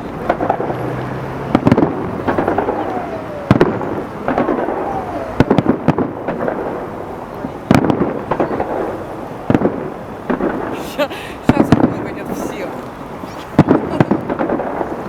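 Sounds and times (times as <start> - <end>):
fireworks shells bursting: 0.0 - 15.0
high crackle of fireworks: 0.0 - 15.0.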